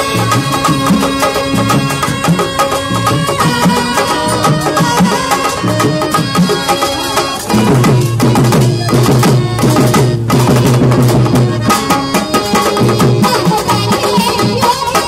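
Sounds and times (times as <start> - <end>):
fast hand drumming: 0.0 - 15.0
held melodic tones: 0.0 - 15.0.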